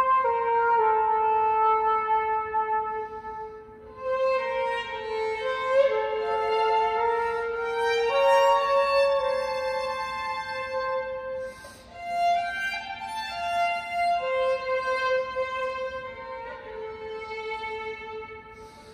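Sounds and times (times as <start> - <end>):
flute: 0.0 - 18.9
violin: 0.0 - 18.9.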